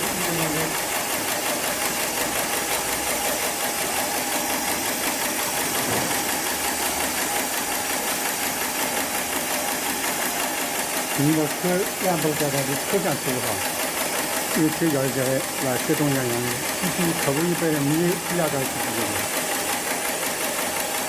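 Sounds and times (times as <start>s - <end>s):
sewing machine running: 0.0s - 21.0s.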